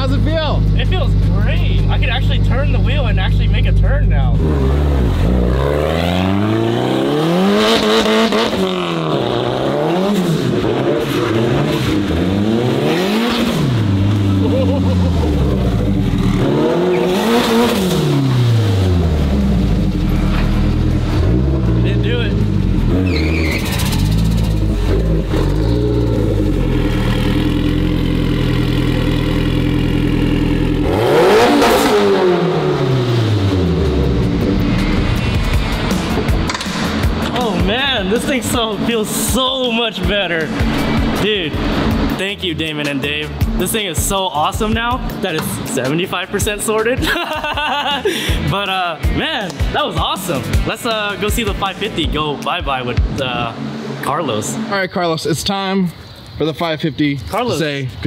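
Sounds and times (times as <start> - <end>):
sports car engine revving: 0.0 - 42.4, 50.3 - 55.1.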